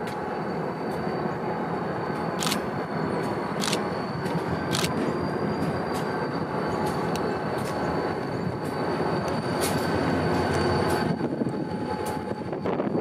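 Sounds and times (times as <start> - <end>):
diesel locomotive rumble: 0.0 - 13.0
high whine: 0.0 - 13.0.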